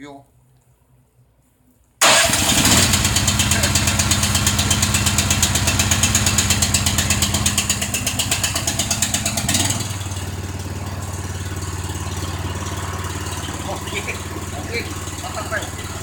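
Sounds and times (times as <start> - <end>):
snowblower engine running: 2.0 - 16.0.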